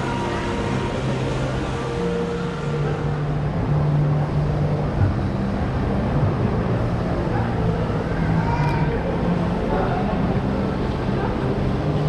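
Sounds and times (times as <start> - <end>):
shopping mall hum: 0.0 - 12.0.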